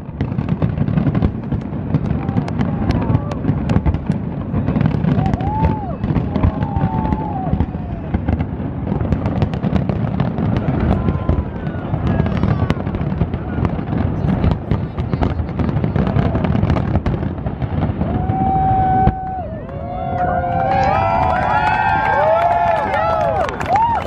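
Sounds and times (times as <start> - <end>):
firework bangs and crackles: 0.0 - 24.0.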